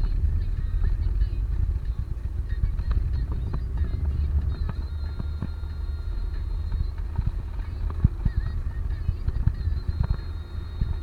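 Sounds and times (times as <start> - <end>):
vehicle road rumble: 0.0 - 11.0.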